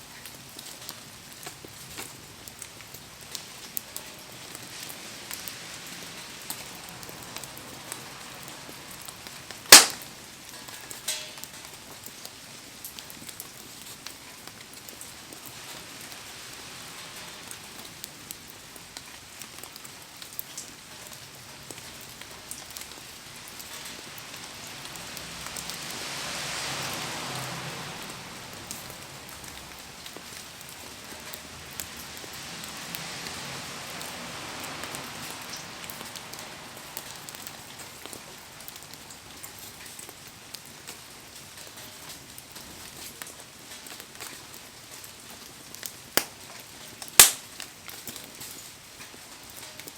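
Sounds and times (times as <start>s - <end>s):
heavy rain falling: 0.0s - 49.9s
sharp rain drop ticks: 0.2s - 49.9s.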